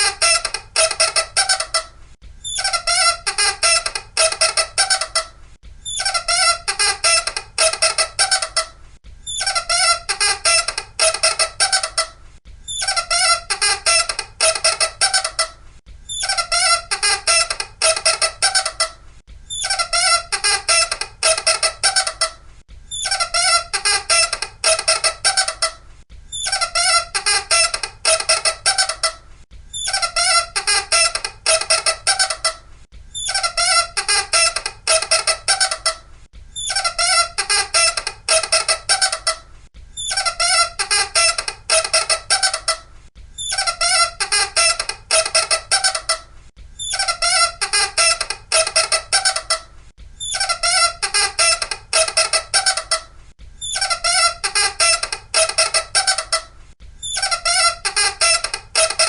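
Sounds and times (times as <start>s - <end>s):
loud high squeaking: 0.0s - 8.7s, 9.3s - 12.1s, 12.7s - 22.3s, 22.9s - 32.6s, 33.2s - 36.0s, 36.6s - 39.4s, 40.0s - 42.8s, 43.4s - 59.0s.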